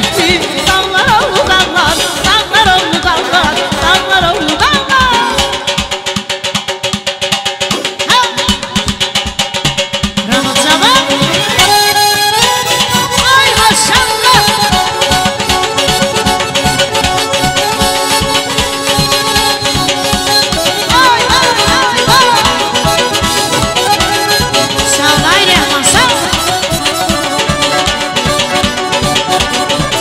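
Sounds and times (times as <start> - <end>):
button accordion dance music: 0.0 - 5.9, 10.2 - 30.0
fast drum beat: 0.0 - 30.0.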